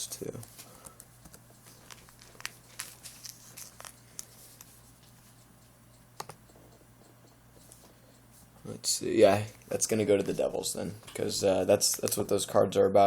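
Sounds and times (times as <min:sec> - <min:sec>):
low electrical hum: 0:00.0 - 0:13.0
faint clicks and taps: 0:00.3 - 0:12.5.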